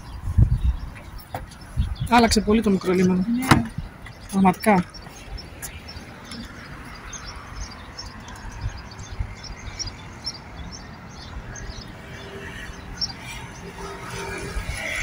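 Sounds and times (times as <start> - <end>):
small birds chirping: 0.0 - 15.0
street traffic rumble: 0.0 - 15.0
wind: 0.0 - 15.0.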